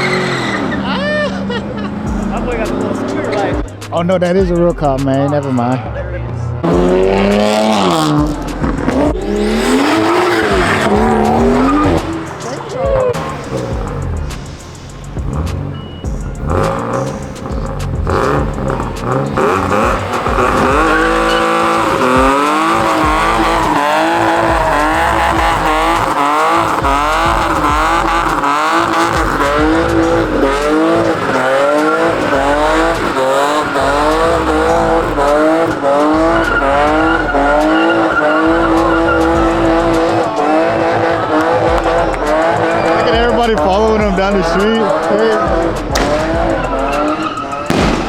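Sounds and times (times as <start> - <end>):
car engine revving hard: 0.0 - 48.0
tyres squealing: 0.0 - 48.0.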